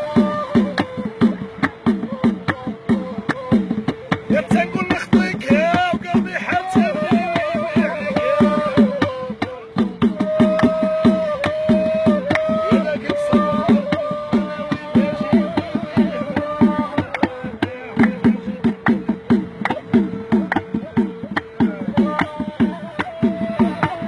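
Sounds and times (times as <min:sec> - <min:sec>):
reed flute long notes: 0:00.0 - 0:18.7, 0:19.6 - 0:24.0
hand drum rhythm: 0:00.0 - 0:24.0.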